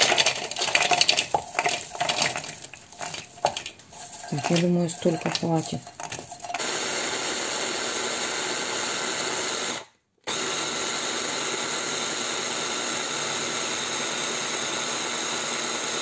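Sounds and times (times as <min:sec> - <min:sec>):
food chopper grinding nuts: 0:00.0 - 0:16.0.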